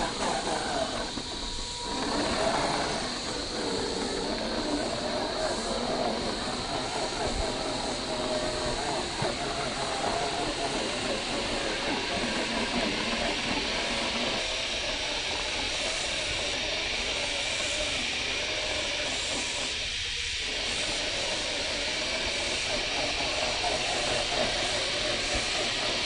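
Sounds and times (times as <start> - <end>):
electric motor and gears whining: 0.0 - 26.0.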